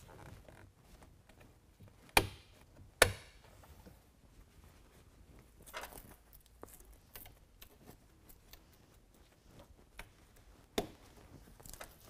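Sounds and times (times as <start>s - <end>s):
fabric handling: 0.0s - 12.0s.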